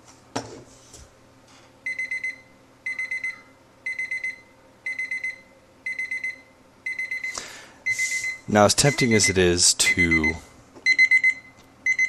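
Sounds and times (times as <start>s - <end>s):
kitchen timer alarm beeping: 1.8s - 12.0s.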